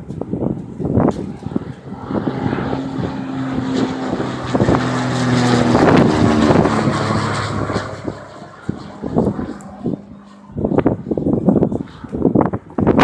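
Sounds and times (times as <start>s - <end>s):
engine humming: 0.0s - 12.4s.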